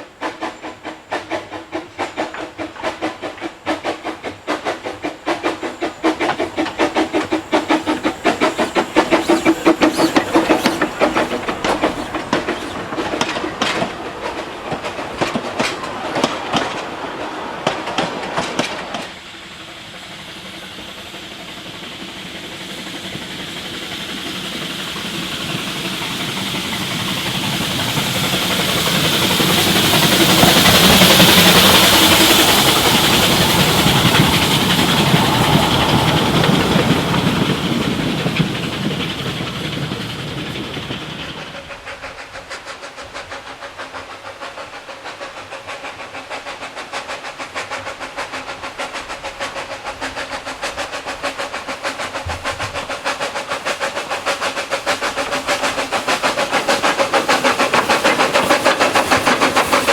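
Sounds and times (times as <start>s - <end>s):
train rushing past: 0.0s - 59.9s
train wheels clicking on rails: 0.0s - 59.9s.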